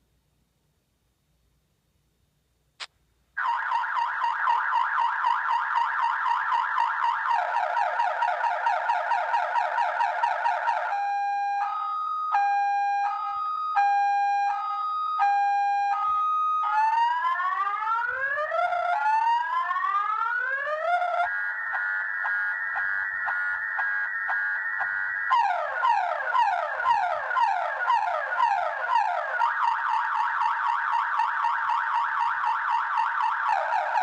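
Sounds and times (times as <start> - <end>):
car alarm siren: 3.4 - 34.0.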